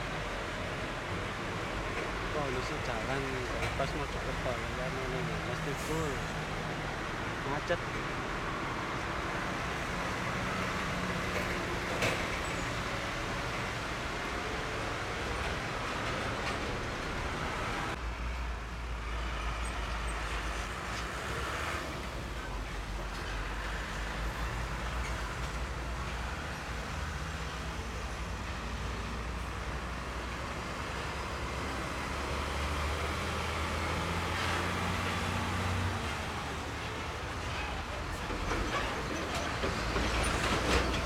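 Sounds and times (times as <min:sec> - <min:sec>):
diesel trucks passing slowly: 0:00.0 - 0:41.0.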